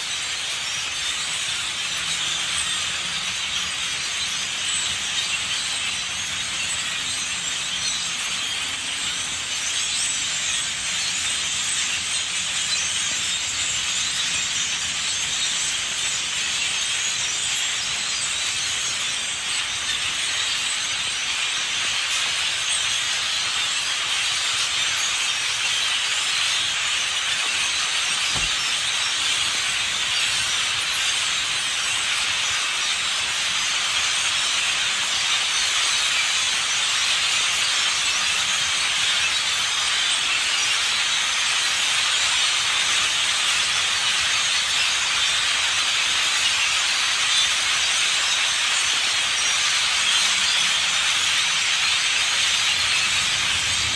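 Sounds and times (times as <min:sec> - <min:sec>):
huge flock of birds calling: 0:00.0 - 0:53.9.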